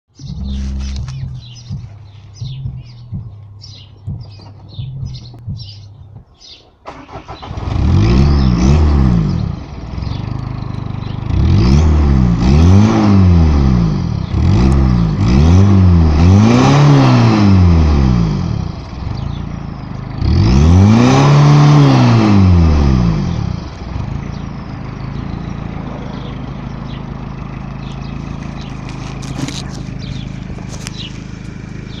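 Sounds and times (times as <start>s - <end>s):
diesel car engine revving: 0.1s - 32.0s.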